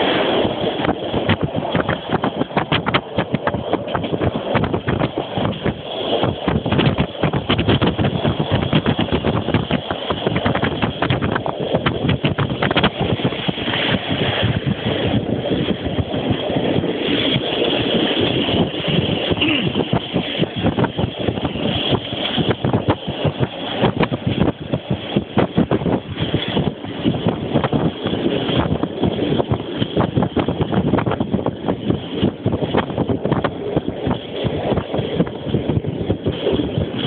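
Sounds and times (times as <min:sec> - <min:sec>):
train rumble: 0:00.0 - 0:37.0.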